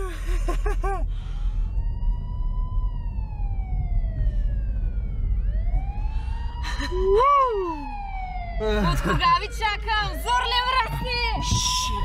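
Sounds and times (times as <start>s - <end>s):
car engine and road noise: 0.0s - 12.0s
siren wailing: 1.3s - 12.0s.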